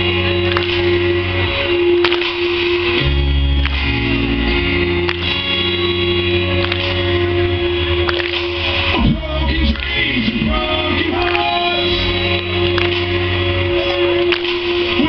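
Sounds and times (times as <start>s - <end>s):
bass line: 0.0s - 15.0s
live band playing instrumental: 0.0s - 15.0s.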